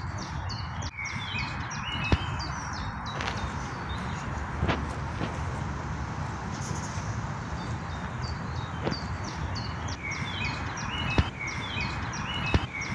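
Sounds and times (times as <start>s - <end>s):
small birds chirping: 0.0s - 12.9s
steady low rumble: 0.0s - 12.9s.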